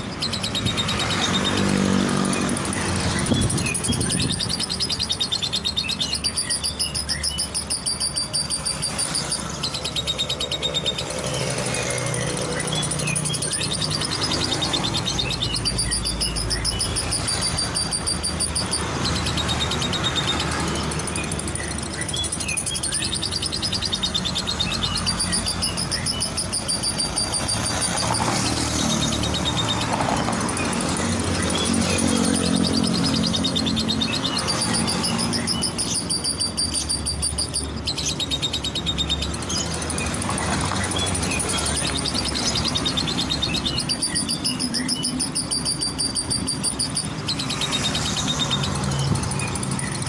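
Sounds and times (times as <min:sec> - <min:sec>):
bird chirping in rapid trills: 0:00.0 - 0:50.0
lovebird chattering: 0:00.0 - 0:50.0
low rumble of traffic: 0:00.0 - 0:50.0.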